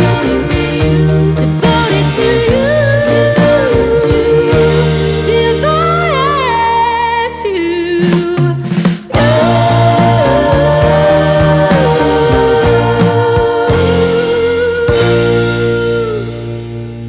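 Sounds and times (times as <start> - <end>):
song with bass line: 0.0 - 17.0.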